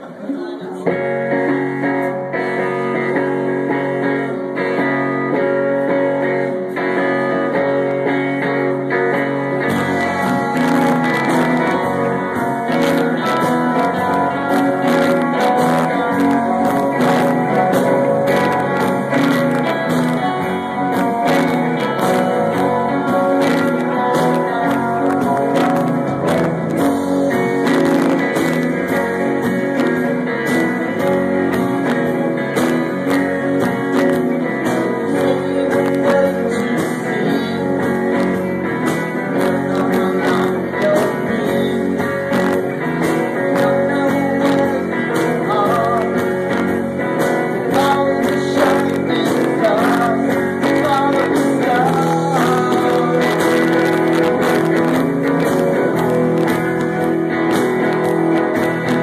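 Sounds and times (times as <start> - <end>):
electric guitar: 0.0 - 59.0
live rock band playing: 0.0 - 59.0.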